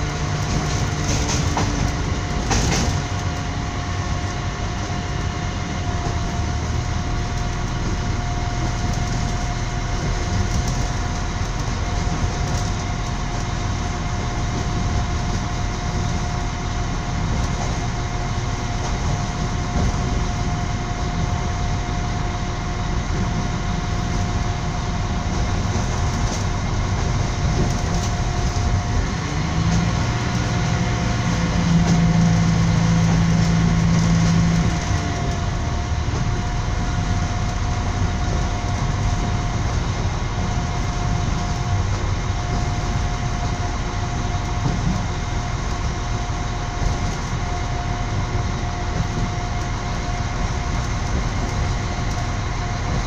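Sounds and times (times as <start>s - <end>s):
train rolling rumble: 0.0s - 53.0s.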